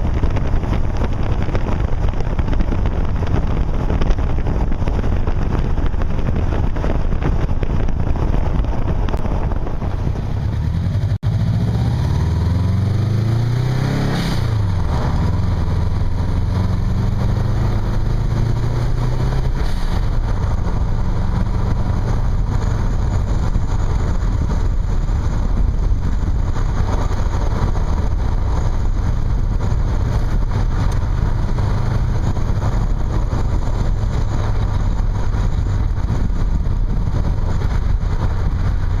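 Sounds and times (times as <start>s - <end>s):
vehicle engine: 0.0s - 39.0s
wind buffeting microphone: 0.0s - 39.0s.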